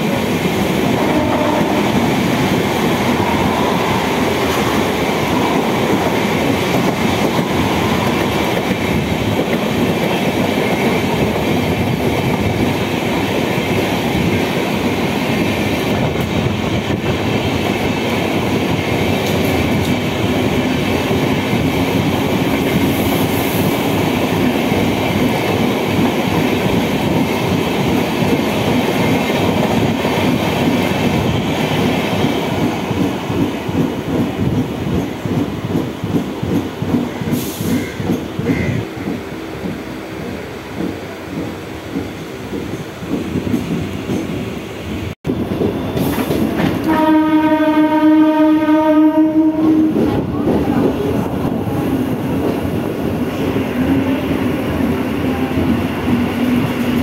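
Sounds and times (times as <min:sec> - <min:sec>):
train wheels clattering on rails: 0:00.0 - 0:47.3
passing train rushing: 0:00.0 - 0:57.0.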